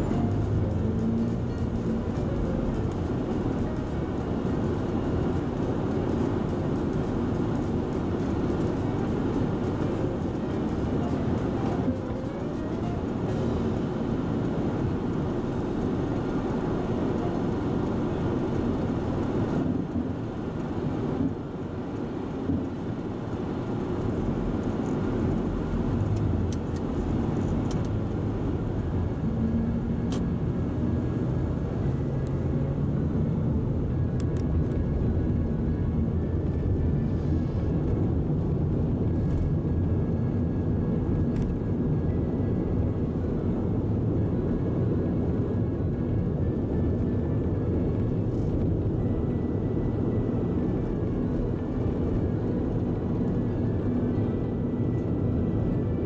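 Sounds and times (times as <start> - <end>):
low vehicle rumble: 0.0 - 56.0.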